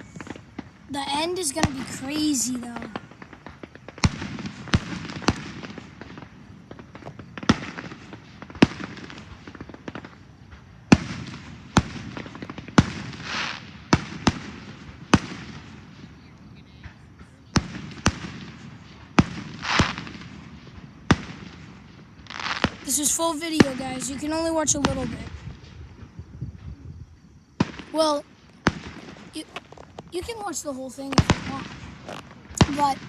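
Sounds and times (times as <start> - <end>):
fireworks hissing: 0.0 - 10.2, 11.0 - 16.1, 17.7 - 20.5, 21.1 - 25.8, 27.6 - 33.0
fireworks bangs: 0.0 - 33.0.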